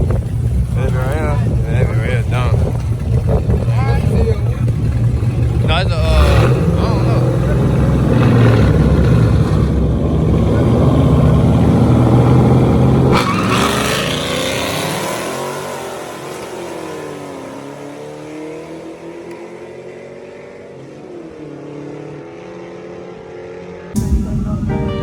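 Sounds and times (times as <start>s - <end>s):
vehicle engine revving and driving off: 0.0s - 24.0s.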